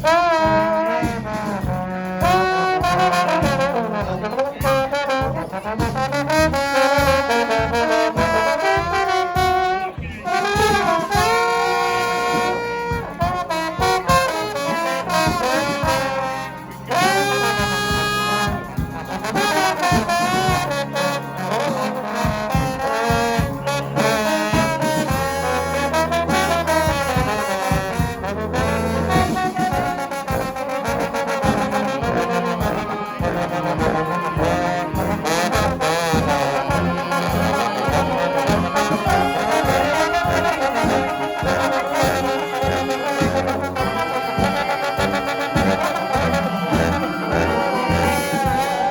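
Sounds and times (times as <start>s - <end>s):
steady drum beat: 0.0s - 48.9s
trumpets and trombones: 0.0s - 48.9s.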